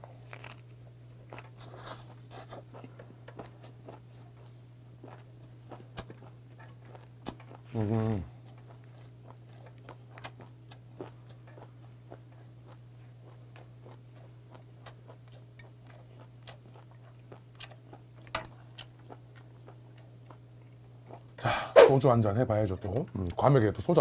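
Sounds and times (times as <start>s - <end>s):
man chewing with wet smacks: 0.0s - 21.4s.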